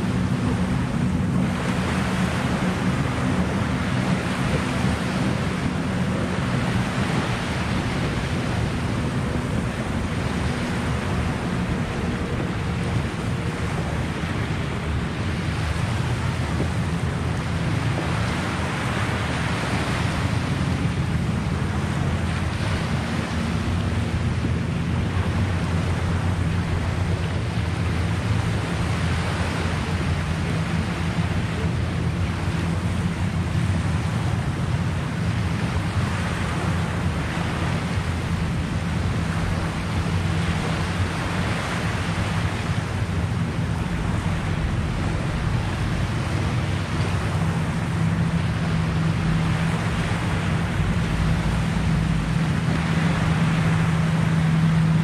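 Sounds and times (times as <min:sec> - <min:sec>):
small waves washing on shore: 0:00.0 - 0:55.0
wind rumbling on microphone: 0:00.0 - 0:55.0.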